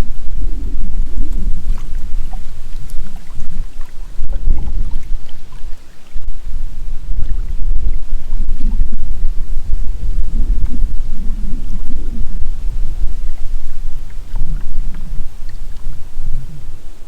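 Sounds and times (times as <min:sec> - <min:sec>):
faint water ticks: 0:00.0 - 0:17.0
wind buffeting microphone: 0:00.0 - 0:17.0.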